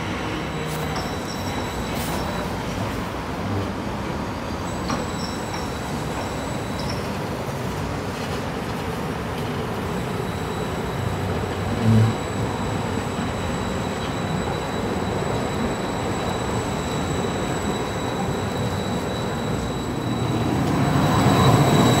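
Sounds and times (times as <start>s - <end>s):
tram wheels rumbling on rail: 0.0s - 22.0s.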